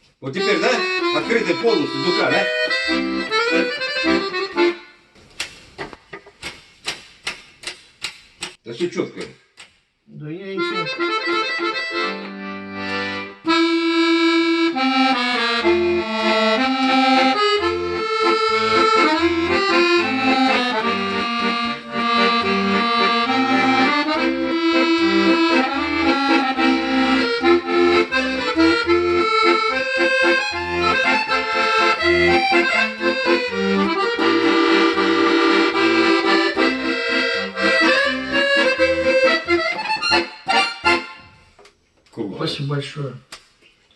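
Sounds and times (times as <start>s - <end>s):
button accordion playing chords: 0.3s - 5.0s, 10.4s - 41.5s.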